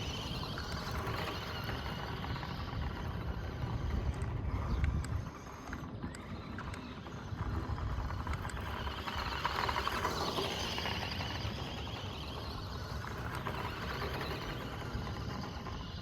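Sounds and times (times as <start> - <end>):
toy car motor whirring: 0.0 - 16.0.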